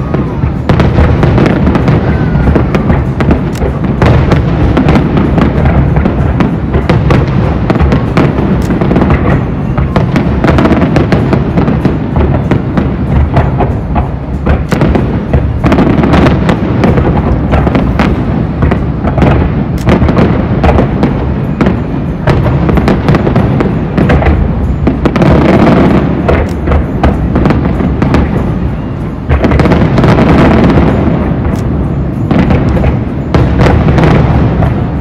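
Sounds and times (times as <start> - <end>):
fireworks booms and crackling: 0.0 - 35.0
music playing: 0.0 - 35.0.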